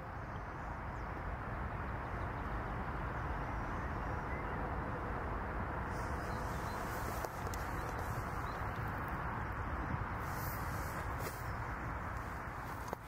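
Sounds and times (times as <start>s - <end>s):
low outdoor rush: 0.0s - 13.0s.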